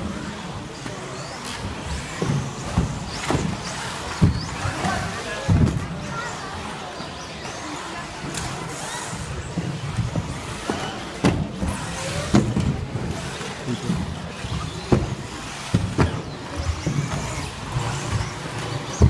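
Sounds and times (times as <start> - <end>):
rc car motors whirring: 0.0 - 19.0
rc cars knocking on track: 0.7 - 6.2, 8.2 - 19.0.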